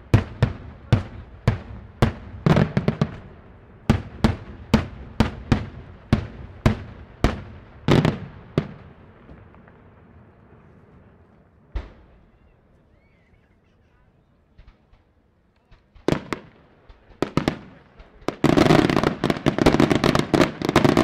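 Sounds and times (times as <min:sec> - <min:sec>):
fireworks bangs: 0:00.0 - 0:12.7, 0:14.4 - 0:21.0.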